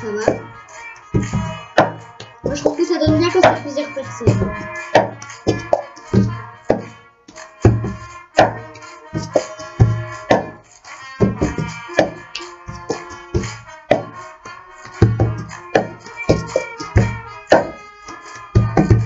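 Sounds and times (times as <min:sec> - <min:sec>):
music with choir and trumpets: 0:00.0 - 0:19.0
hands clapping: 0:01.2 - 0:07.6, 0:08.4 - 0:19.0.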